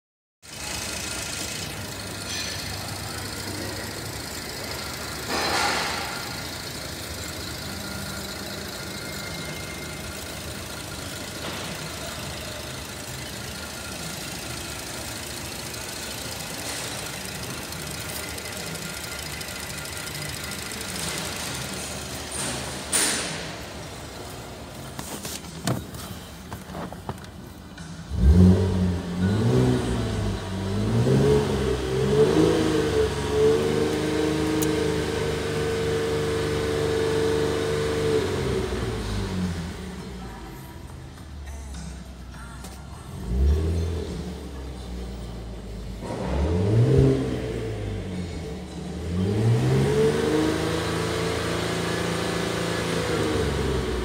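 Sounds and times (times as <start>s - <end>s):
car engine idling: 0.4s - 54.0s.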